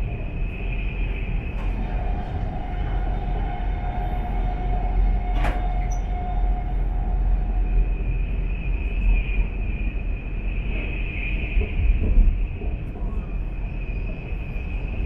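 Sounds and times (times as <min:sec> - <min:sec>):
high-pitched whine: 0:00.0 - 0:15.0
train cabin rumble: 0:00.0 - 0:15.0.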